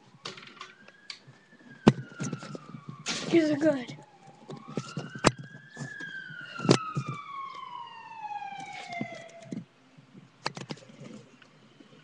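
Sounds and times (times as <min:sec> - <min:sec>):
emergency siren wailing: 0:00.0 - 0:09.7.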